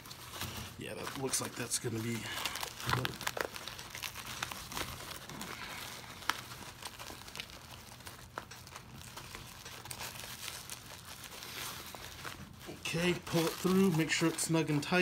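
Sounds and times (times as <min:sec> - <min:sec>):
nylon webbing rustling: 0:00.0 - 0:15.0.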